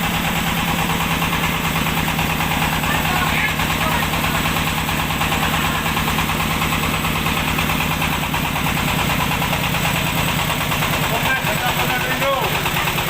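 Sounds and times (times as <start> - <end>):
milling machine engine running: 0.0 - 13.0.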